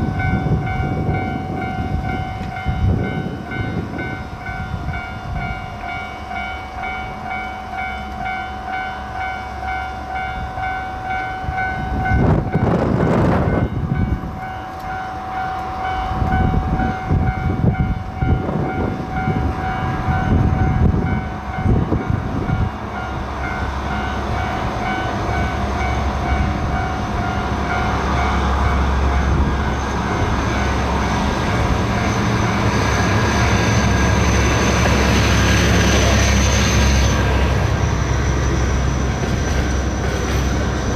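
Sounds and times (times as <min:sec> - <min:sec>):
diesel train engine running: 0:00.0 - 0:40.9.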